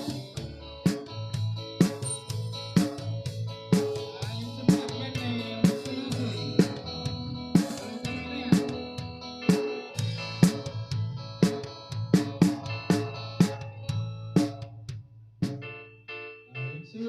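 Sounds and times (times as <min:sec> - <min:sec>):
dance song with guitar and drums: 0:00.0 - 0:15.7.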